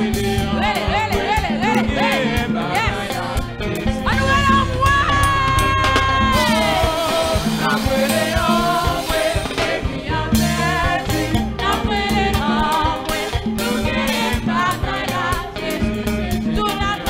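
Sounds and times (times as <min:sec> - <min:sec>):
band with drums: 0:00.0 - 0:17.0
congregation singing: 0:00.0 - 0:17.0
woman singing into microphone: 0:00.5 - 0:15.7, 0:16.5 - 0:17.0.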